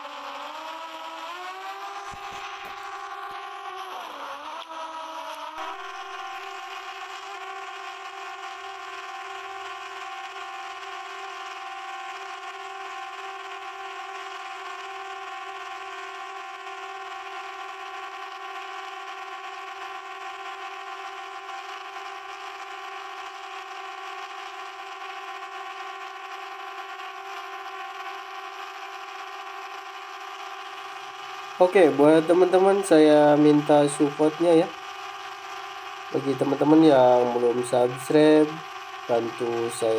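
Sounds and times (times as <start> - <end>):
drone propellers whining: 0.0 - 20.8, 24.3 - 39.9.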